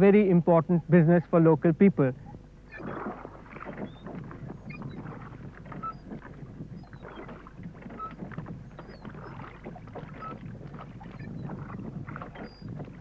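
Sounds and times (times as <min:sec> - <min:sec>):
paddle splashing water: 0:01.6 - 0:13.0
water knocking against hull: 0:02.1 - 0:13.0.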